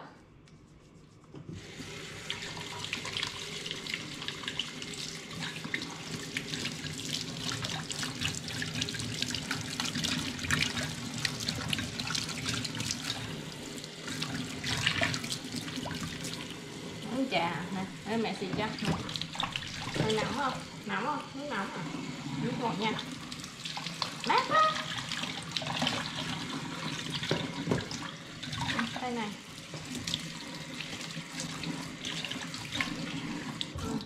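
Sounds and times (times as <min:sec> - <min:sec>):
tap water running and splashing: 0:01.5 - 0:34.0.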